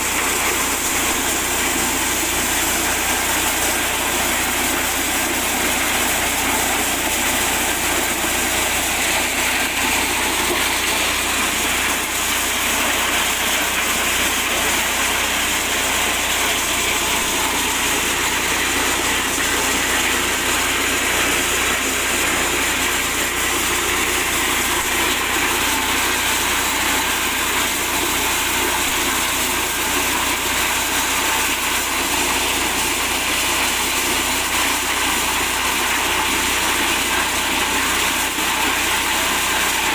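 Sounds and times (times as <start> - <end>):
corn sheller engine running: 0.0 - 39.9.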